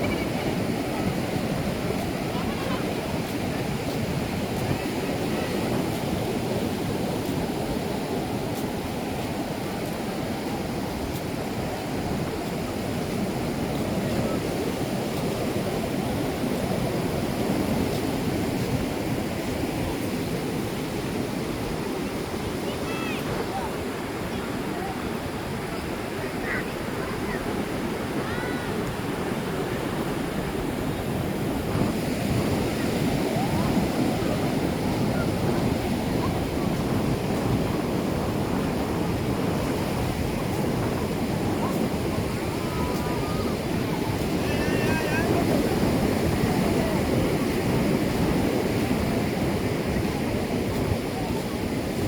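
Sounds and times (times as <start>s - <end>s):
ocean waves washing on beach: 0.0s - 52.0s
wind buffeting microphone: 0.0s - 52.0s.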